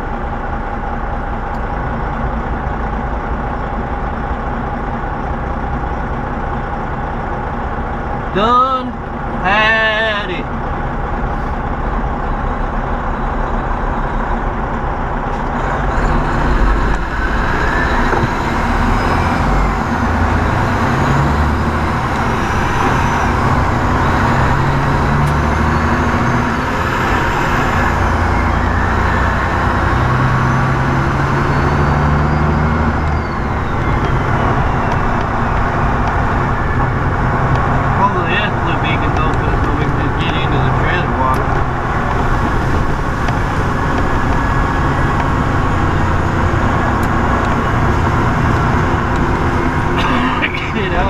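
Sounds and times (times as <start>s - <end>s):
diesel truck engine running: 0.0s - 51.0s.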